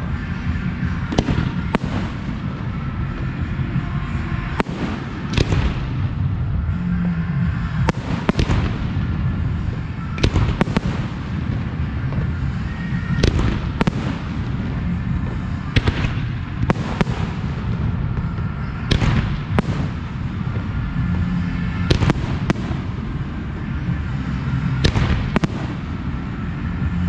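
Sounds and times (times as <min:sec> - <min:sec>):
rumble of firework launches: 0:01.1 - 0:27.0.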